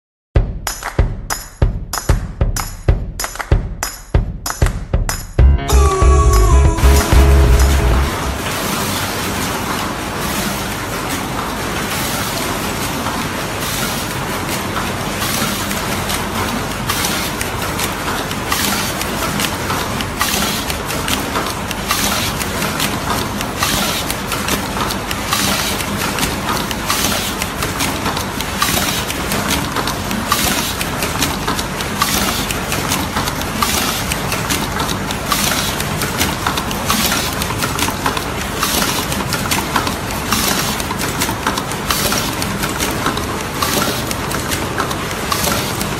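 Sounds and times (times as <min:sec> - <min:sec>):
machine mechanical din: 0:06.5 - 0:45.9.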